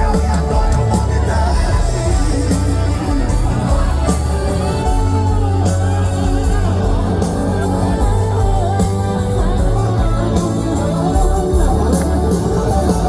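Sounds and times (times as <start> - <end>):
heavy bass: 0.0 - 13.0
live gospel band music: 0.0 - 13.0
person singing: 0.0 - 13.0.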